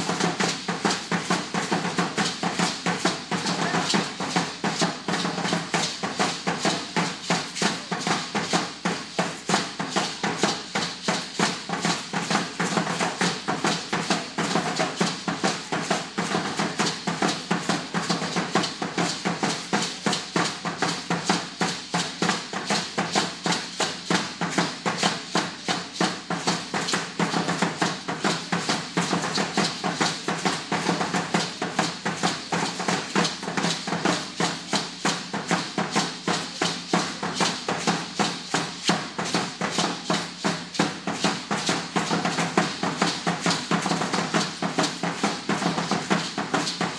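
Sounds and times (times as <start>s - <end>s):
ankle rattles shaking: 0.0s - 46.9s
large drum beaten fast: 0.0s - 46.9s.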